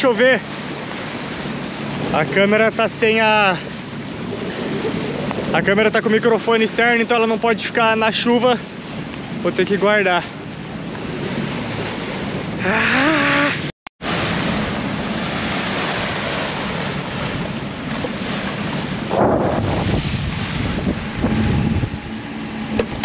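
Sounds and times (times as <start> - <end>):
boat motor drone: 0.0 - 23.0
water rushing past hull: 0.0 - 23.0
wind buffeting microphone: 0.6 - 12.6, 14.1 - 23.0.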